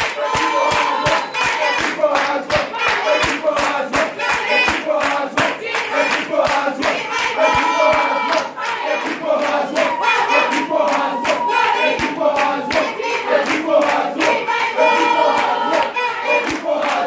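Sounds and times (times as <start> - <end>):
crowd singing: 0.0 - 17.0
hand clapping on a beat: 0.0 - 17.0.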